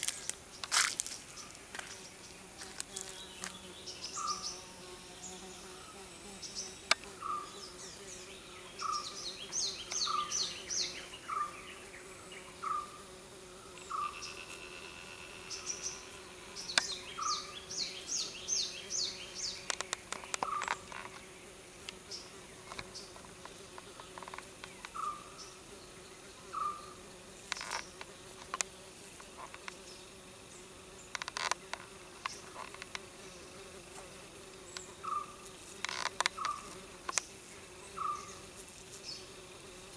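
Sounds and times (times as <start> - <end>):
bee buzzing: 0.0 - 39.9.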